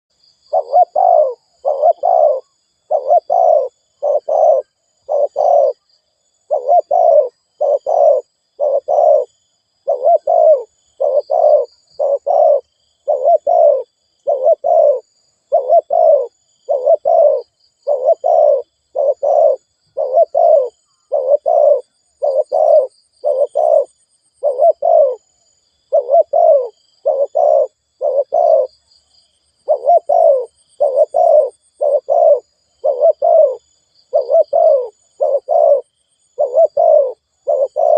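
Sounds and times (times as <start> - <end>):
faint high bird chirps: 0.1 - 37.9
rapid dove cooing: 0.5 - 5.9, 6.5 - 25.3, 25.9 - 28.7, 29.6 - 37.9.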